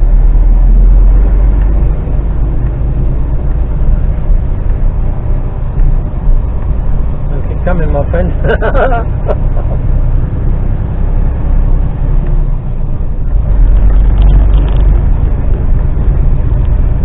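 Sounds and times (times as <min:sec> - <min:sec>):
lorry diesel engine rumble: 0:00.0 - 0:17.0.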